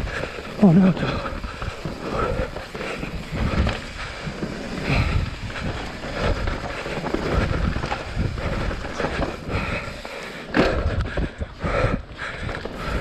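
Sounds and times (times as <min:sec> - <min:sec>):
bike rattling: 0:00.0 - 0:13.0
tyres rumbling over dirt: 0:00.0 - 0:13.0
wind buffeting microphone: 0:00.0 - 0:13.0.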